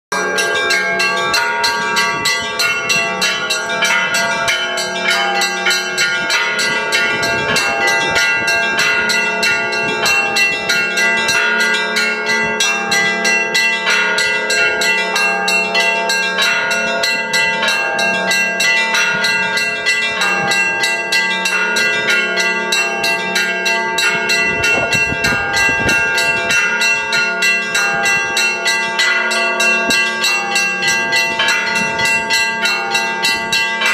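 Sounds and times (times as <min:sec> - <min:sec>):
church bells pealing: 0:00.1 - 0:33.9.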